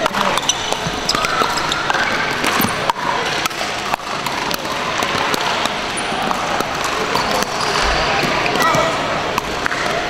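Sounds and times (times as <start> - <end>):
background din in gym hall: 0.0 - 10.0.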